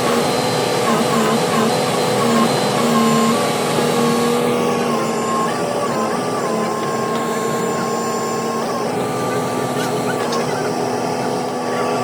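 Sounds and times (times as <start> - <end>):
excavator hydraulics: 0.0 - 12.0
vibratory pile driver humming: 0.0 - 12.0.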